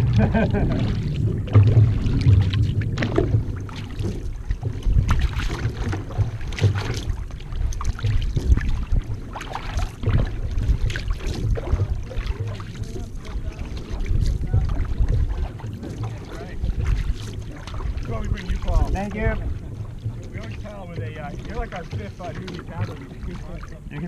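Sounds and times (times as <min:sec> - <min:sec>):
low rumble of moving canoe: 0:00.0 - 0:24.0
paddle pulling through water: 0:00.0 - 0:24.0
water washing along hull: 0:00.0 - 0:24.0.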